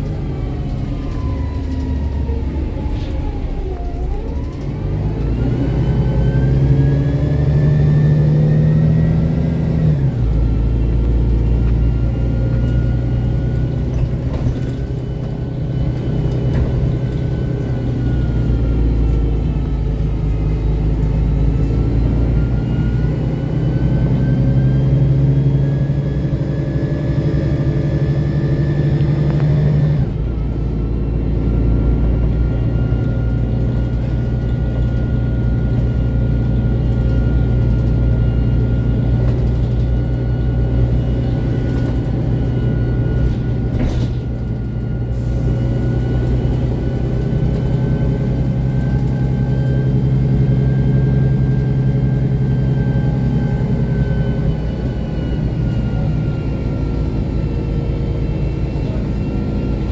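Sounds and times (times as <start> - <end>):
bus diesel engine and drivetrain whine: 0.0 - 59.9.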